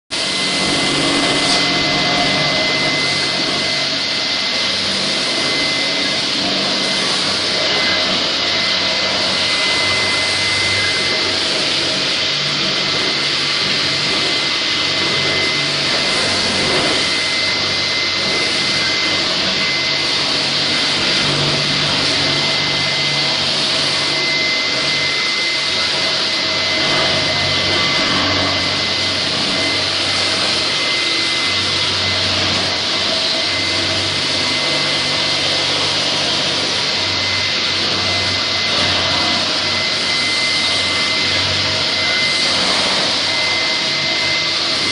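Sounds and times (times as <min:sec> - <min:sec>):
dust-collector vacuum: 0:00.1 - 0:44.9
floor grinder grinding concrete: 0:00.1 - 0:44.9.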